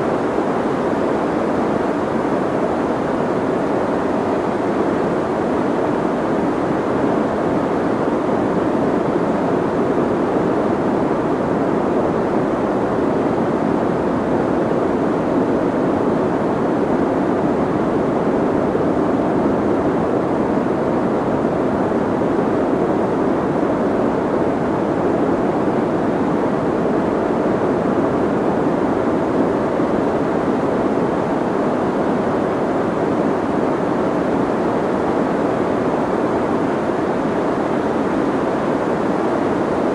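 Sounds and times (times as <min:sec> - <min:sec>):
muffled white noise: 0:00.0 - 0:39.9.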